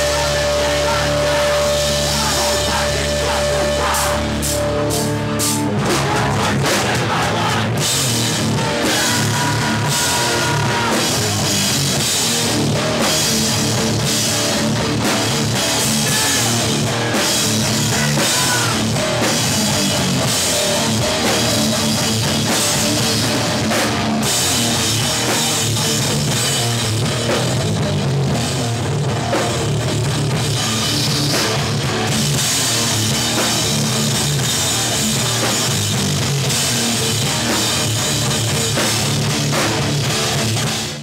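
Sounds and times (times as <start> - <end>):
punk band playing live: 0.0 - 41.0.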